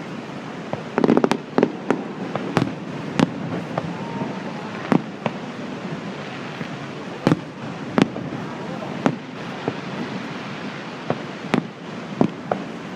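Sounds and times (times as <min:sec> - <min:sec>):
fireworks bangs: 0:00.0 - 0:12.9
steady background hiss: 0:00.0 - 0:12.9.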